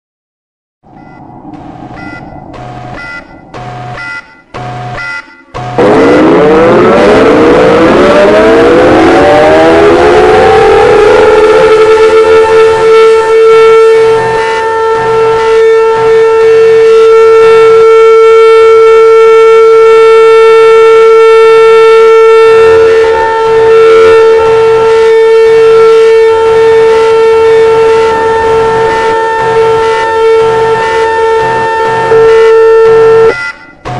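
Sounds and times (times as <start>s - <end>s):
steady siren tone: 0.8s - 33.9s.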